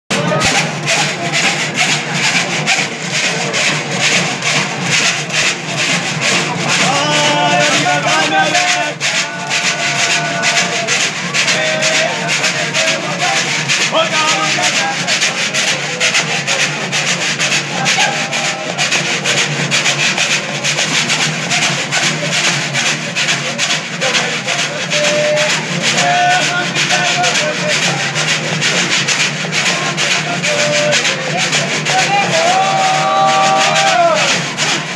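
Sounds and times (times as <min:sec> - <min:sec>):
strummed string instruments: 0:00.1 - 0:34.9
bamboo scraper rasping: 0:00.5 - 0:34.9.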